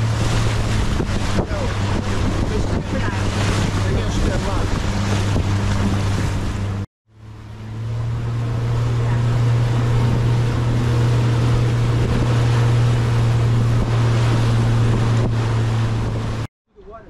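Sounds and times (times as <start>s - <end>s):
boat engine droning: 0.0s - 17.0s
water noise: 0.0s - 17.0s
wind: 0.0s - 17.0s.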